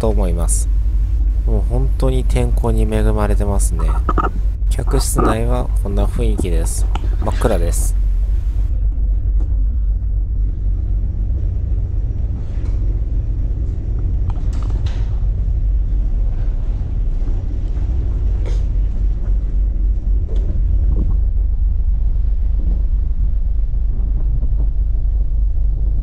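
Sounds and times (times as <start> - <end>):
ship engine low rumble: 0.0 - 26.0.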